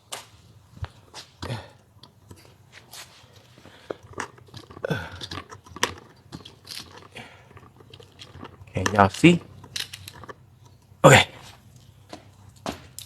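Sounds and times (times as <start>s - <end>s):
handling clicks and knocks: 0.0s - 13.0s
rustling: 0.0s - 13.0s.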